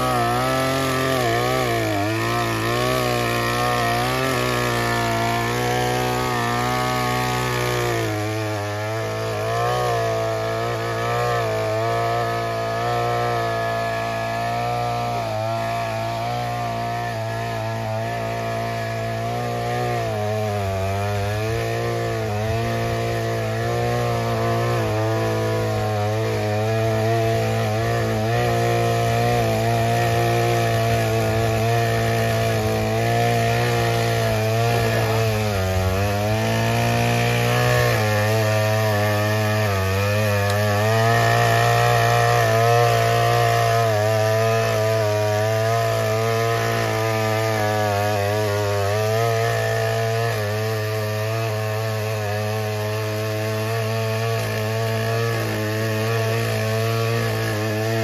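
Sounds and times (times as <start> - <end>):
brush cutter engine running: 0.0 - 58.0.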